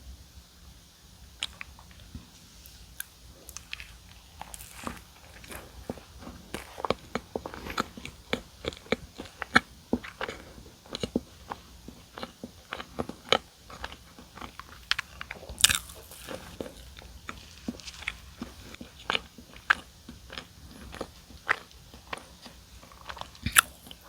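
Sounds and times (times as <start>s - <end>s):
biting and chewing donuts: 1.4s - 24.0s
crisp crunches: 2.6s - 24.0s.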